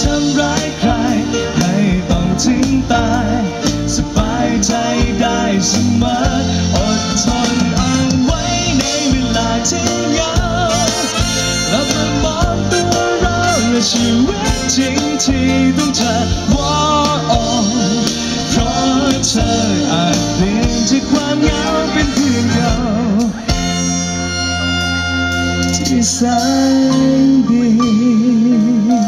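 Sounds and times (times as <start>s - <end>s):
male singer singing: 0.0s - 23.7s, 25.6s - 29.0s
drum kit: 0.0s - 29.0s
electric bass: 0.0s - 29.0s.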